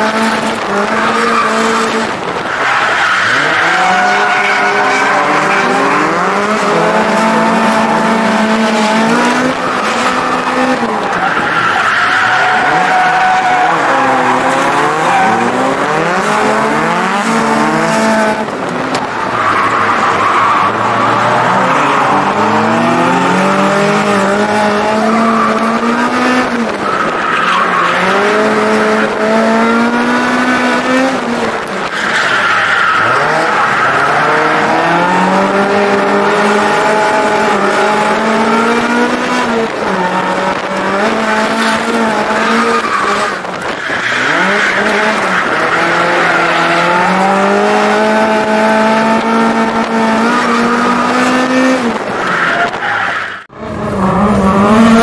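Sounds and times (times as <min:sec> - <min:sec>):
car engine revving hard: 0:00.0 - 0:52.8, 0:53.4 - 0:55.0.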